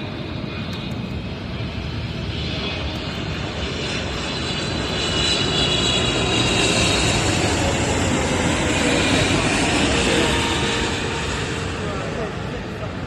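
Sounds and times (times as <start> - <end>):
faint high engine whine: 0.0 - 13.0
jet engines rushing: 0.0 - 13.0.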